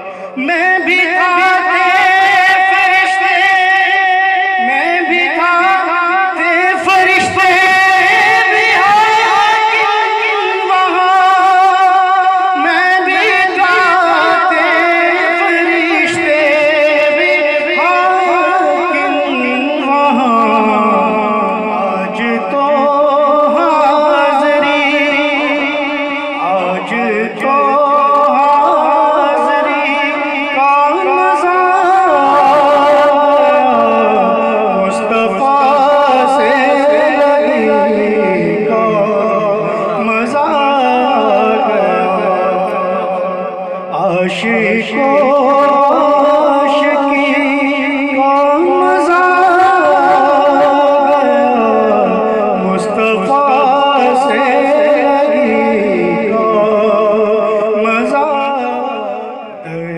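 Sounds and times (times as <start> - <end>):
man singing into a microphone: 0.0 - 59.9.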